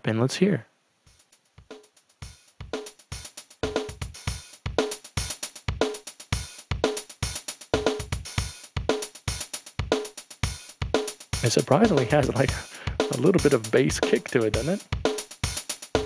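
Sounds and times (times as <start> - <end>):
drum machine beat: 1.1 - 16.0.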